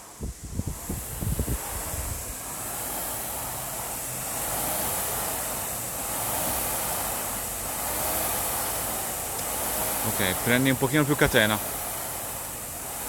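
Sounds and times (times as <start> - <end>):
rowing machine fan whirring: 0.0 - 13.0.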